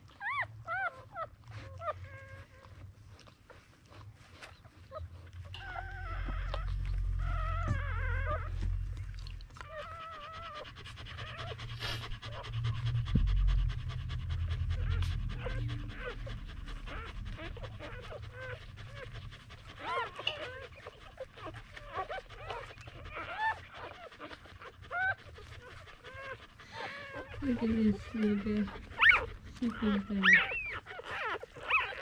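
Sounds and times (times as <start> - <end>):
dog panting: 0.0 - 32.0
puppies squeaking and whining: 0.0 - 32.0.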